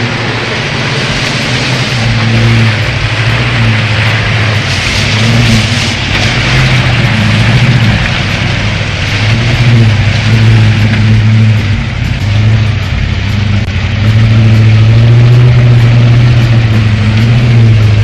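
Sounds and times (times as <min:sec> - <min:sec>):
heavy truck engine under load: 0:00.0 - 0:18.0.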